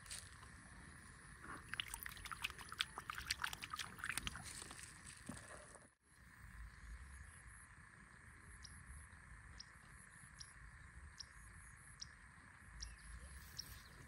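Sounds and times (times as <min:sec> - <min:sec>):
faint insect drone: 0:00.0 - 0:14.0.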